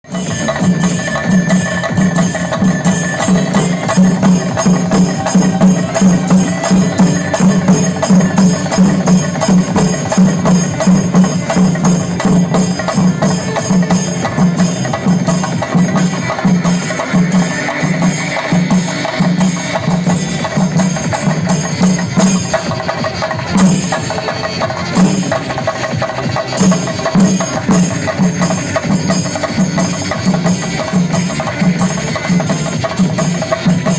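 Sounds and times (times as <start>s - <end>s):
drums beaten with sticks: 0.0s - 33.9s
hand cymbals ringing: 0.1s - 33.9s.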